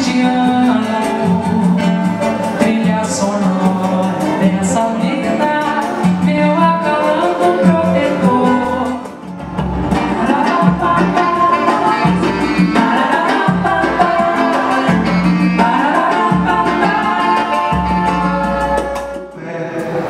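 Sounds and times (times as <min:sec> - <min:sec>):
live samba band with singing: 0:00.0 - 0:20.0.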